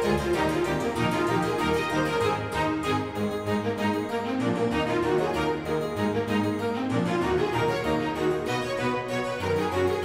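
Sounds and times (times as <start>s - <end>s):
harpsichord-like keyboard: 0.0s - 10.0s.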